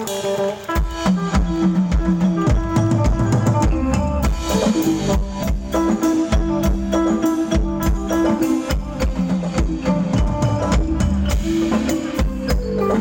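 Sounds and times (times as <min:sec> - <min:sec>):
bass: 0:00.0 - 0:13.0
drum kit: 0:00.0 - 0:13.0
guitar: 0:00.0 - 0:13.0.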